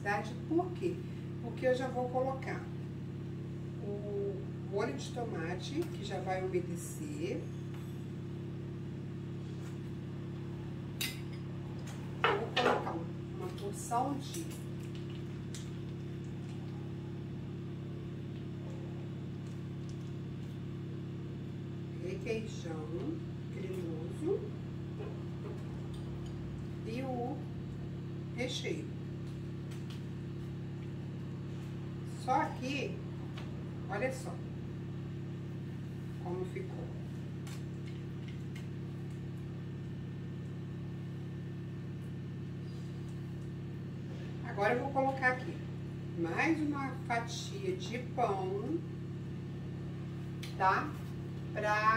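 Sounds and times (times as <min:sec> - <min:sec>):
low electrical hum: 0:00.0 - 0:51.9.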